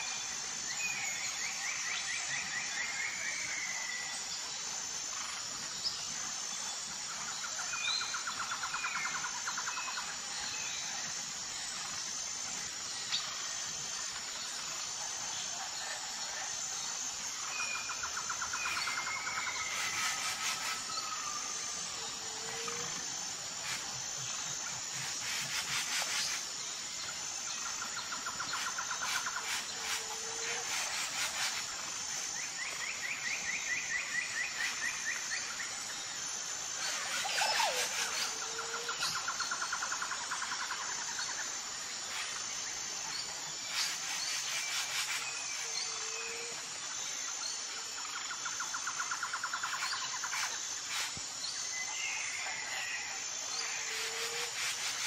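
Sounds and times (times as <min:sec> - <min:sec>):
high insect buzz: 0:00.0 - 0:55.0.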